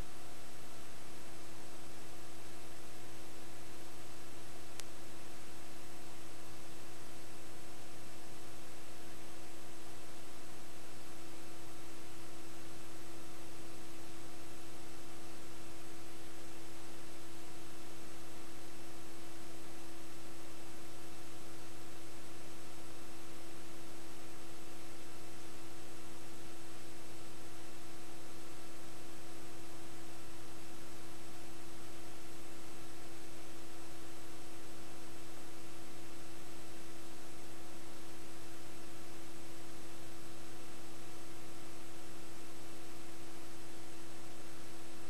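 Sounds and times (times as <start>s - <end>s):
electrical hum: 0.0s - 45.0s
faint steady tones: 0.0s - 45.0s
steady hiss: 0.0s - 45.0s.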